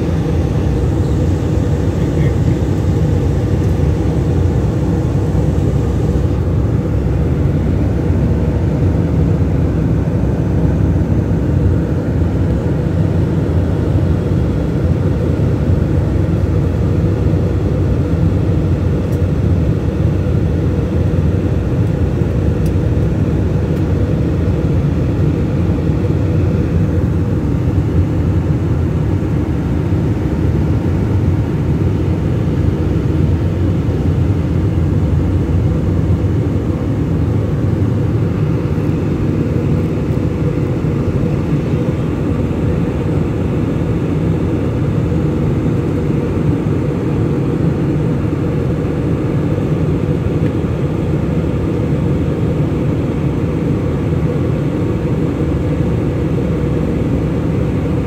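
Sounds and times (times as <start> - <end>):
jet airliner cabin drone: 0.0 - 58.0.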